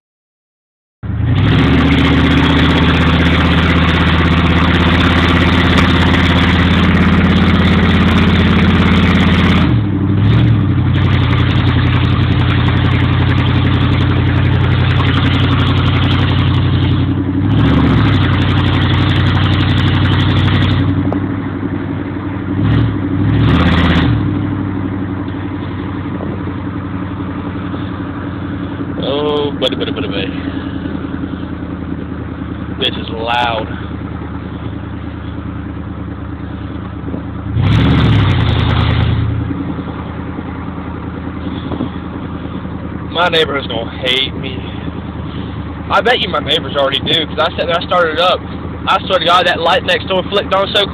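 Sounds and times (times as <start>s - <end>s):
loud exhaust idling and revving: 1.0s - 50.9s.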